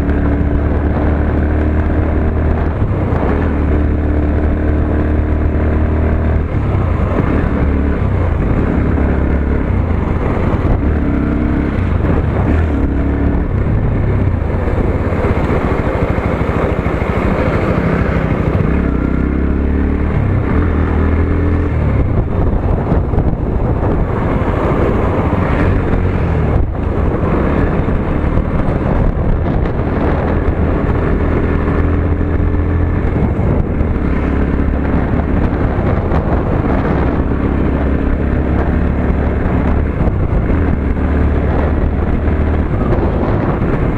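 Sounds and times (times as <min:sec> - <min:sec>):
motorcycle engine revving: 0:00.0 - 0:43.9
wind on microphone: 0:00.0 - 0:43.9.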